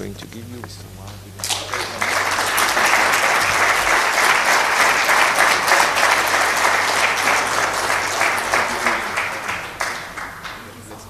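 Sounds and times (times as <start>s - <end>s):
audience applause: 1.4s - 11.0s.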